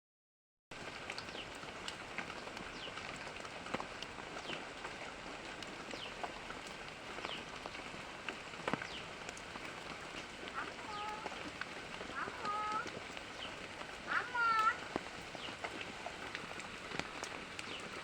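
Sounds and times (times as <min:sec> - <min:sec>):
water pattering: 0:00.8 - 0:18.0.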